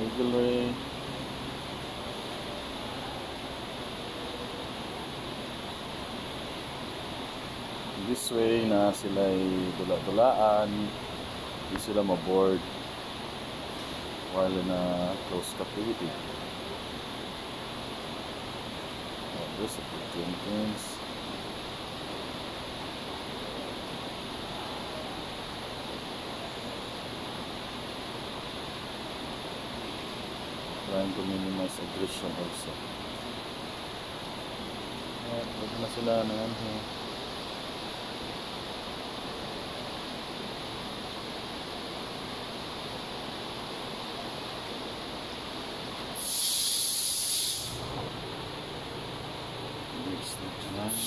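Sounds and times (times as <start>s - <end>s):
loud hiss: 0.0s - 51.0s.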